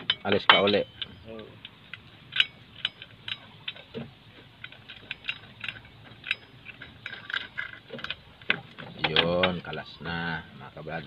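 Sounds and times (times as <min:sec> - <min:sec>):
metallic clicks and clinks: 0:00.0 - 0:09.6.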